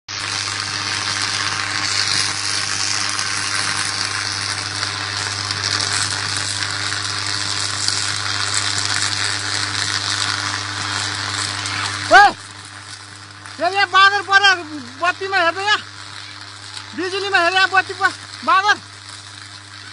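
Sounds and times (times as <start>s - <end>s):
electrical arc sizzling hiss: 0.1s - 19.9s
low electrical hum: 0.1s - 19.9s.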